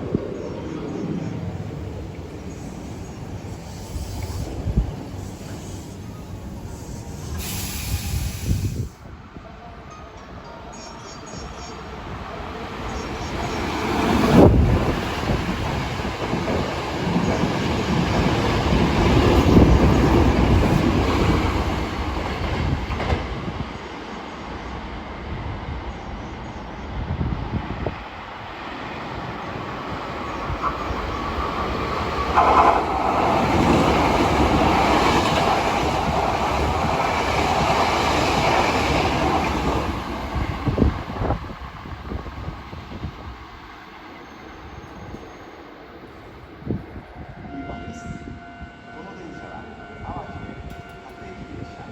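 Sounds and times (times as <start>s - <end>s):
electric trains passing: 0.0s - 51.9s.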